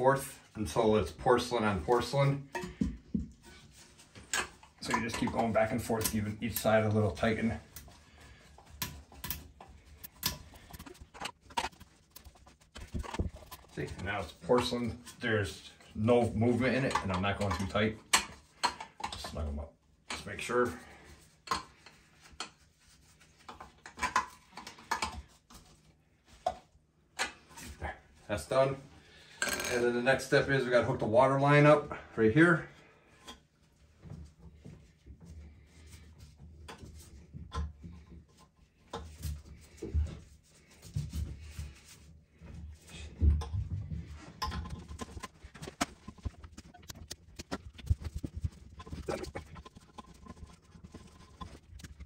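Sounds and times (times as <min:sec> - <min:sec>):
knocks and rubbing on plumbing: 0:00.6 - 0:28.6, 0:32.7 - 0:52.0.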